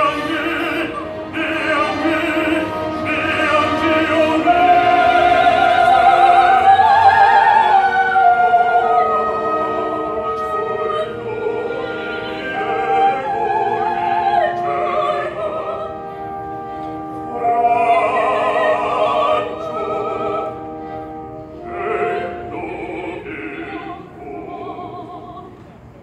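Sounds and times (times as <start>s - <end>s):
operatic voices singing: 0.0s - 25.7s
orchestral accompaniment: 0.0s - 26.0s.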